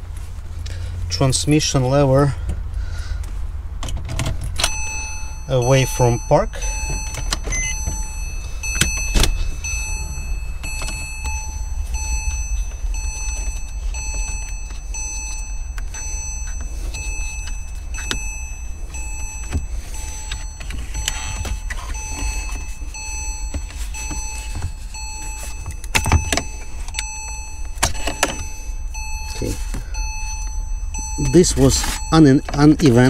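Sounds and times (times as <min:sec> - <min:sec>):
steady low hum: 0:00.0 - 0:33.0
beeping chime: 0:04.6 - 0:33.0.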